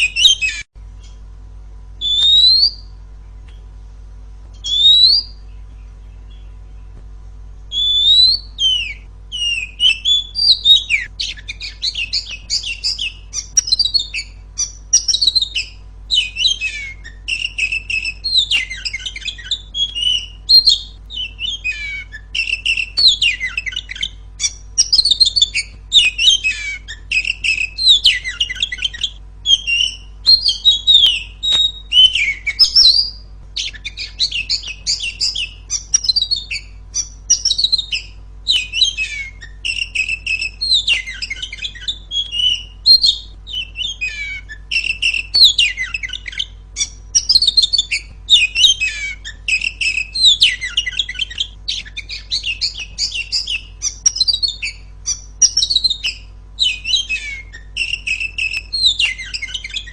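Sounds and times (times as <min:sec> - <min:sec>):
bird singing whistled phrases: 0:00.0 - 0:01.2, 0:02.0 - 0:03.0, 0:04.5 - 0:06.8, 0:07.7 - 0:59.9.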